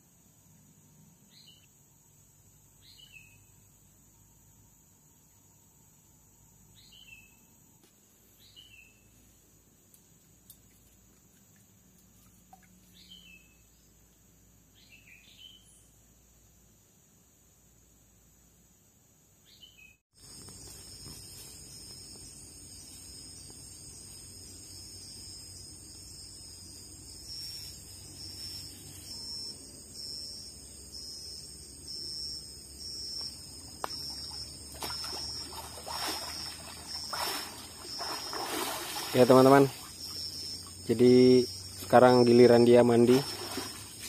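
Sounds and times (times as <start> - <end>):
insects chirring: 0.0 - 44.0
outdoor background noise: 0.0 - 44.0.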